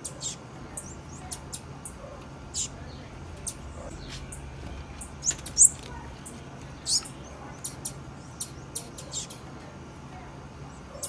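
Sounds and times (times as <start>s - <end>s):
bird chip calls: 0.0s - 9.5s.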